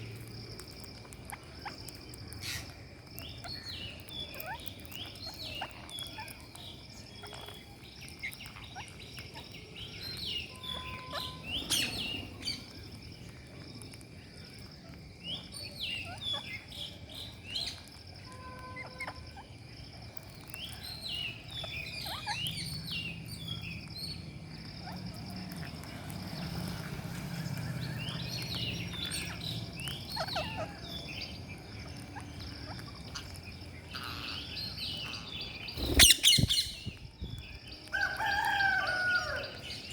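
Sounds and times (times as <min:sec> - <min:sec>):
parakeets chirping: 0:00.0 - 0:13.6, 0:14.5 - 0:17.9, 0:20.4 - 0:37.1.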